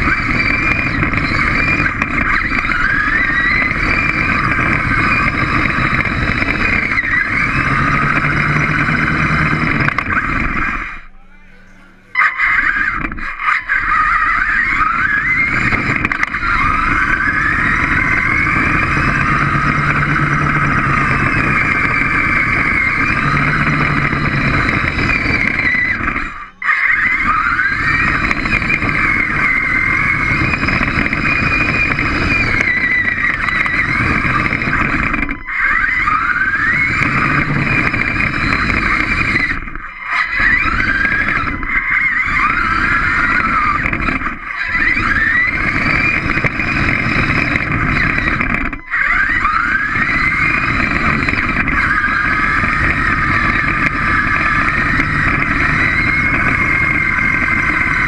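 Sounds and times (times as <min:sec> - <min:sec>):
electric motors whining: 0:00.0 - 0:58.0
rough drive rumble: 0:00.0 - 0:58.0.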